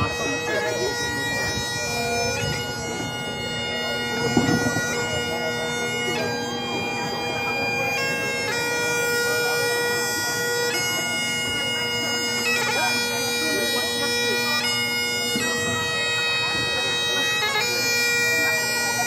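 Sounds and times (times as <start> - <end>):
bagpipe playing slow melody: 0.0 - 19.0.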